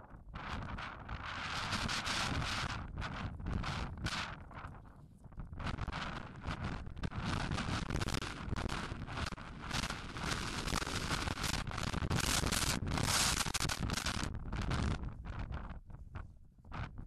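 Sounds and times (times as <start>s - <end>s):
wind buffeting microphone: 0.1s - 17.0s.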